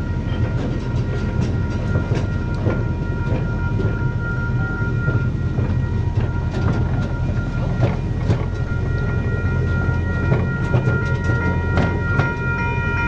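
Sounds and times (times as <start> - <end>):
miniature train rumbling: 0.0 - 13.0.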